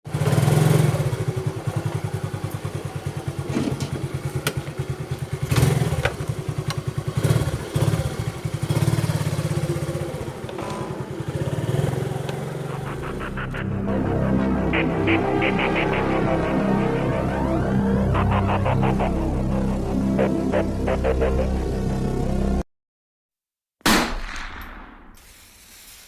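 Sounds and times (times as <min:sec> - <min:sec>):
motorcycle engine running: 0:00.1 - 0:22.4.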